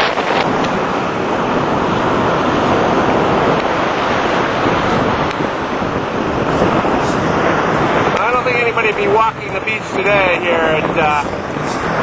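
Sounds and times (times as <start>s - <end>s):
heavy waves breaking: 0.0s - 12.0s
wind blowing across microphone: 0.0s - 12.0s.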